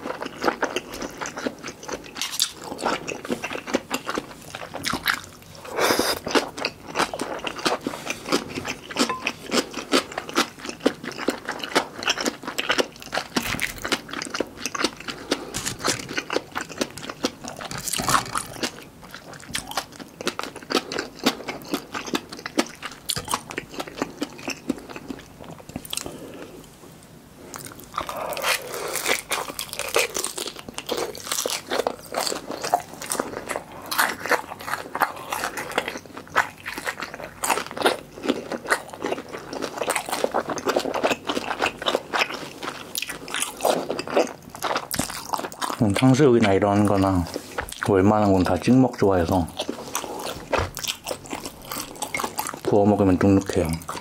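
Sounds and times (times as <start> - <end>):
person chewing wetly: 0.0 - 26.7, 27.4 - 54.0.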